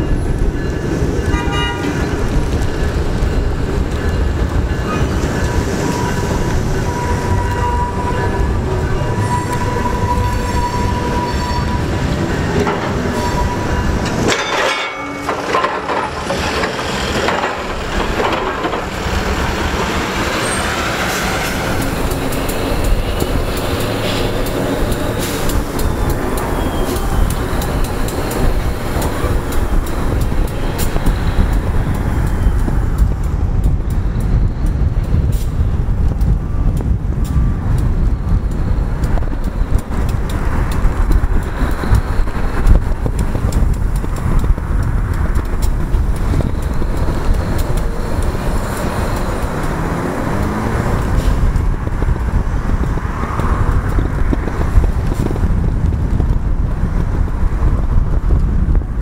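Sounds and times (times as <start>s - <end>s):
wind on microphone: 0.0s - 14.4s, 15.4s - 59.0s
diesel locomotives running slowly: 0.0s - 59.0s.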